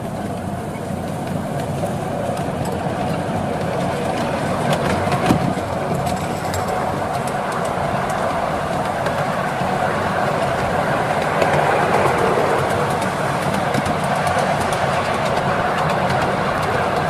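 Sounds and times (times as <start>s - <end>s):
locomotive hum: 0.0s - 17.0s
train wheels rumbling on rail: 0.0s - 17.0s.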